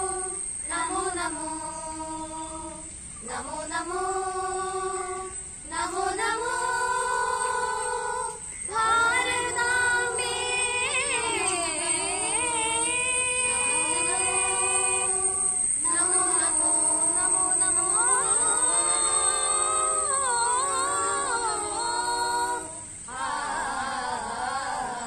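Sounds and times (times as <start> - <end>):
group of students singing: 0.0 - 25.0.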